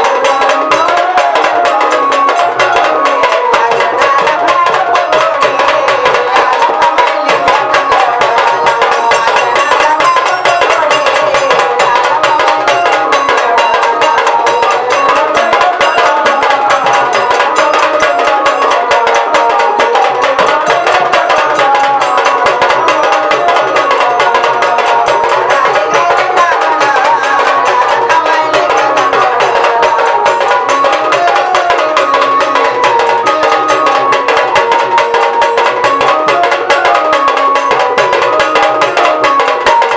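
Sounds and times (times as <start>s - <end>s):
fast drumming and percussion: 0.0s - 39.9s
wavering melody line: 0.0s - 39.9s.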